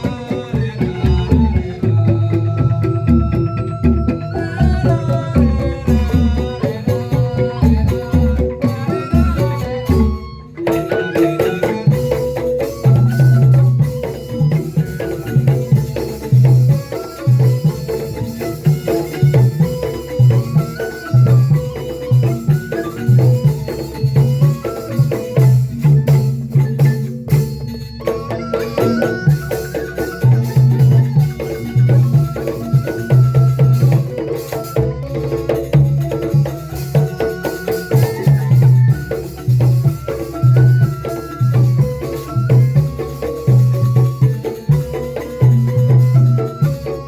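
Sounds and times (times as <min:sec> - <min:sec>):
pitched percussion melody: 0:00.0 - 0:47.0.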